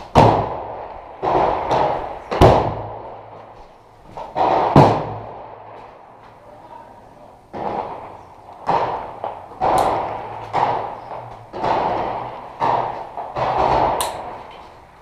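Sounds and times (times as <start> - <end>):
gunshots with echoing tails: 0.0 - 6.2, 7.5 - 15.0.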